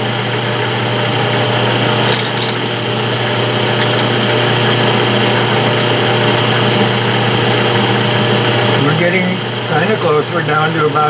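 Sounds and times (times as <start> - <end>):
metal lathe humming: 0.0 - 11.0.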